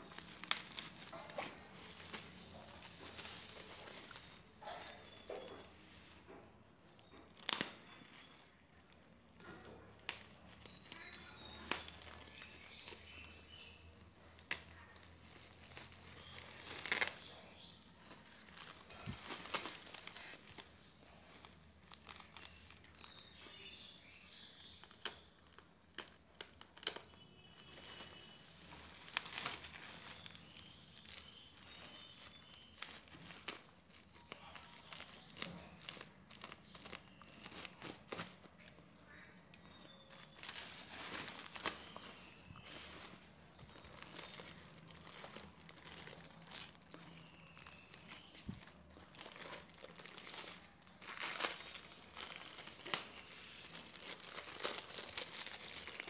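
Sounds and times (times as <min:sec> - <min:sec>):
bubble wrap crinkling: 0:00.0 - 0:56.0.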